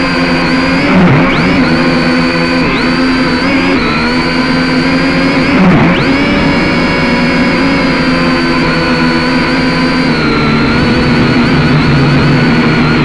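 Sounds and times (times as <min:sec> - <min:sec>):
drone motors and propellers whining: 0:00.0 - 0:13.0.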